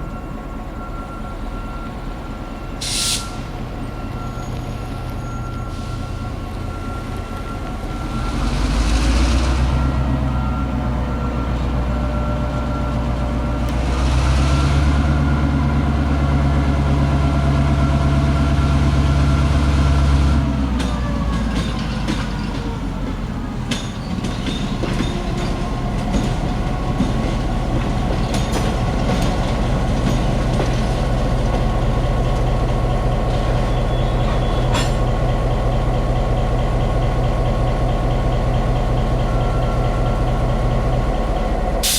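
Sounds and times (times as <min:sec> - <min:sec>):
diesel locomotive engine: 0:00.0 - 0:41.9
train cars clicking and knocking: 0:03.4 - 0:41.9.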